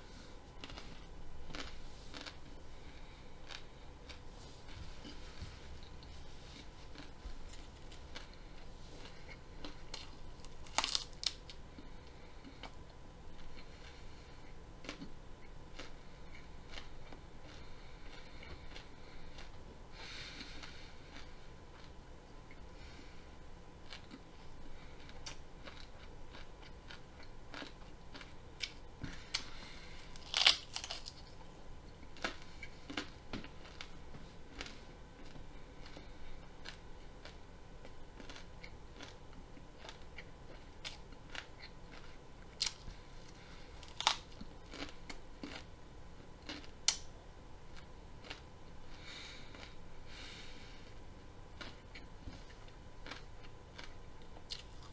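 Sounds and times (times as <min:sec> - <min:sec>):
broccoli being chewed: 0:00.0 - 0:23.1, 0:23.8 - 0:47.1, 0:47.7 - 0:54.9.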